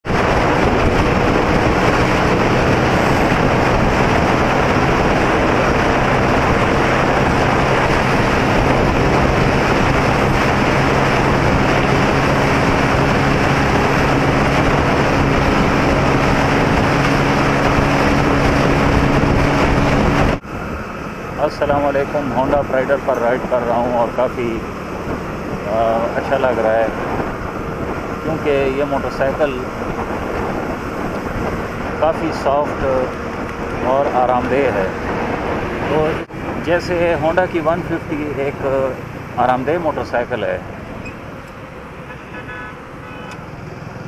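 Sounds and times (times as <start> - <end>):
wind rush on microphone: 0.0 - 42.0
motorcycle engine cruising: 0.0 - 44.0.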